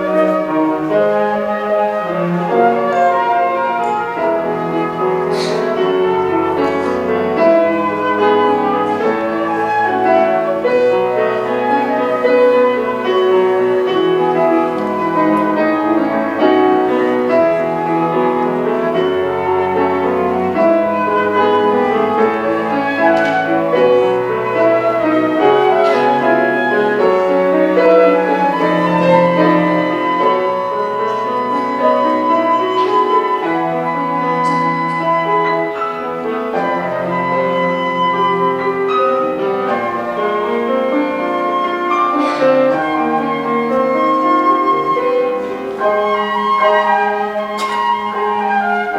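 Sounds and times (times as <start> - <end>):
cello: 0.0 - 48.9
flute: 0.0 - 48.9
piano chords: 0.0 - 48.9.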